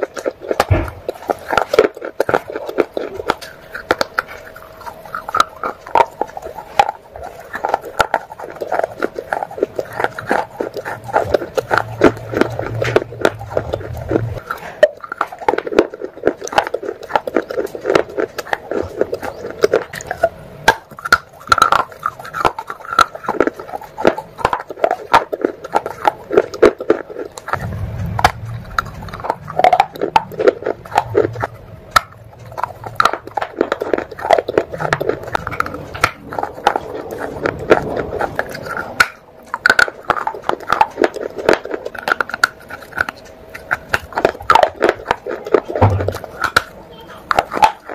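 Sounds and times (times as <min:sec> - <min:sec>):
clay pot pieces crunching: 0:00.0 - 0:47.9.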